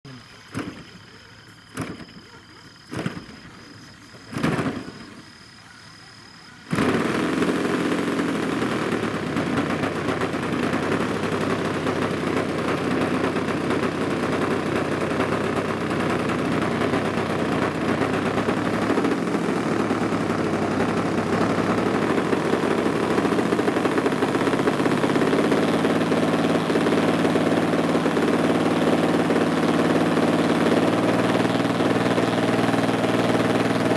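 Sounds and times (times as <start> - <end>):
model airplane engine idling: 0.1 - 33.9
engine pops: 0.4 - 5.3, 6.7 - 33.9.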